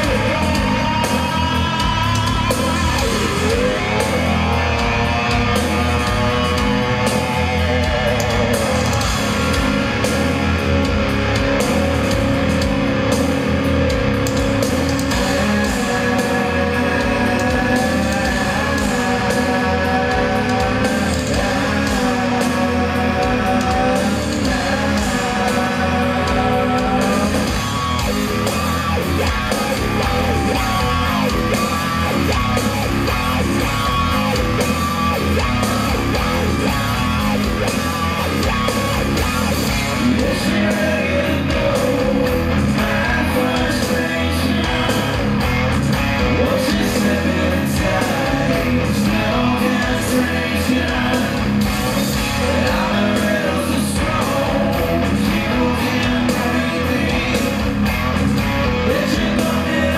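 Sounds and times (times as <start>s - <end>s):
bass guitar: 0.0s - 59.9s
distorted electric guitars: 0.0s - 59.9s
drums: 0.0s - 59.9s
person singing lead vocals: 0.0s - 59.9s.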